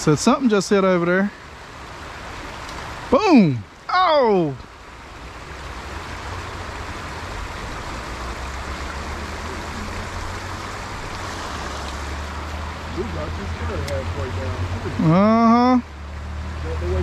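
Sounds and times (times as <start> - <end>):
creek water rushing over logs: 0.0 - 17.0.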